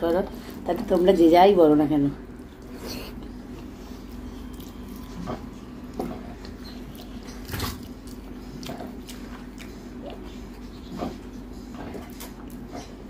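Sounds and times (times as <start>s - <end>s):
steady low hum: 0.0s - 13.0s
chewing food: 2.3s - 13.0s.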